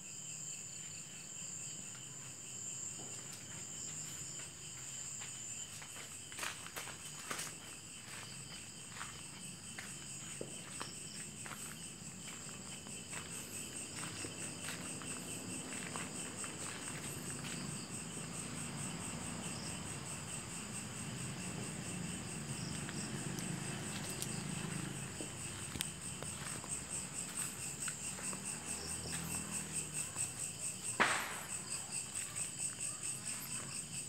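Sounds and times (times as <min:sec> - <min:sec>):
night insects chirring: 0:00.0 - 0:34.0
footsteps: 0:01.9 - 0:34.0.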